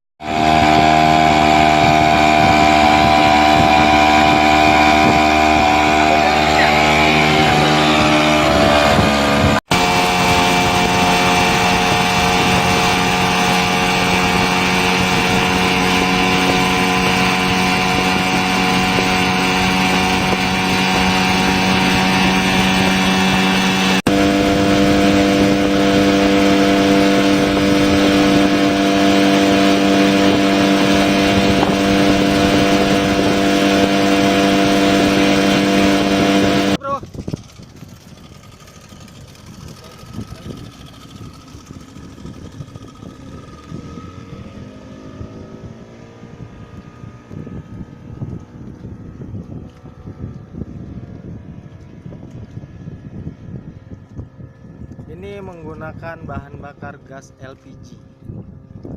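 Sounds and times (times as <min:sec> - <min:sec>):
speedboat engine running: 0:00.2 - 0:58.9.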